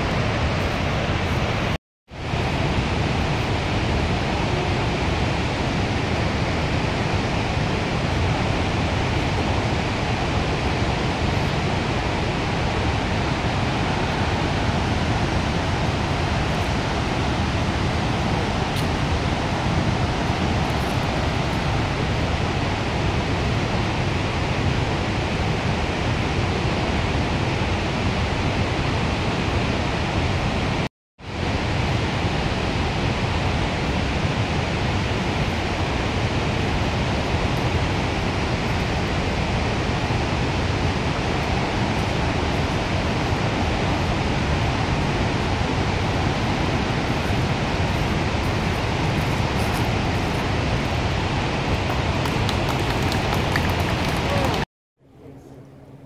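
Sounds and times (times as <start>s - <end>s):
waterfall roaring: 0.0s - 54.7s.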